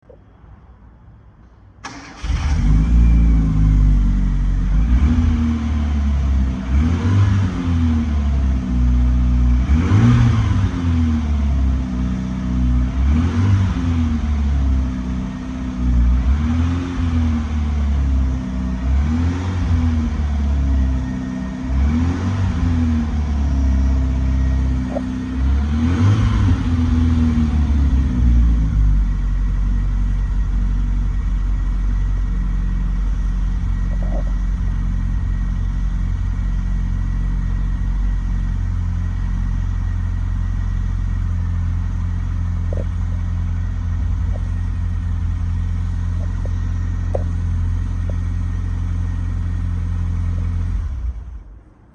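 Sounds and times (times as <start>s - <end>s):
car engine revving and idling: 1.8s - 51.9s.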